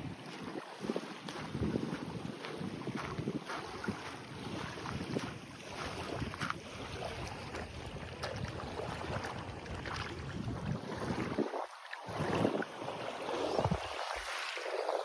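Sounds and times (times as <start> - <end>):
small waves lapping on sand: 0.0 - 15.0
wind rumbling on microphone: 0.0 - 15.0.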